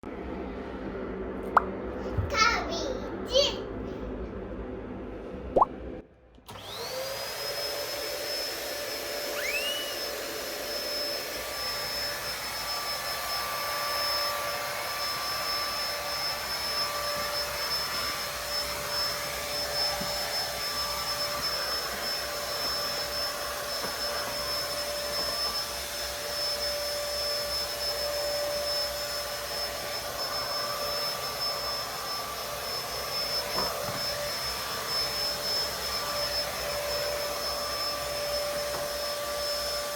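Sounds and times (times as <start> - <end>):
vacuum cleaner running: 0.0 - 2.4, 4.0 - 39.9.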